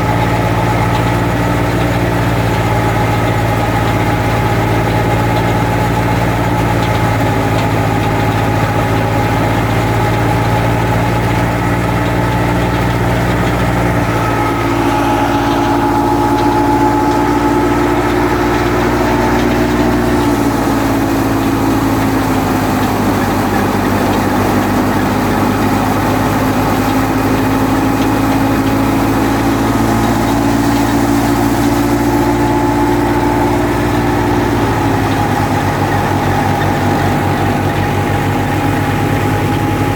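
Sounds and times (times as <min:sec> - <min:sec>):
thresher machine drone: 0:00.0 - 0:39.9
whining machine tones: 0:00.0 - 0:39.9.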